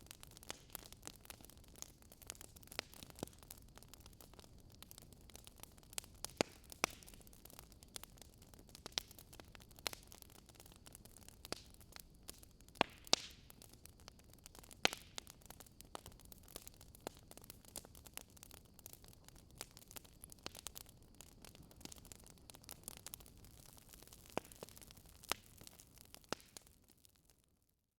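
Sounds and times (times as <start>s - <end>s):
wood fire crackling: 0.0s - 27.5s
faint steady hiss: 0.0s - 27.9s.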